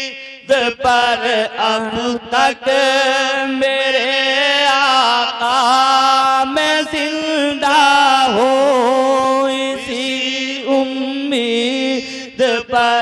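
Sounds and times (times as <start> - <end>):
man singing through a microphone: 0.0 - 13.0.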